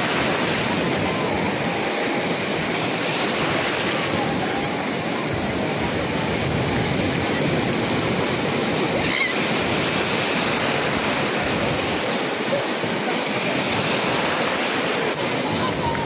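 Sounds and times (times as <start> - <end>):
sea surf breaking: 0.0 - 16.0.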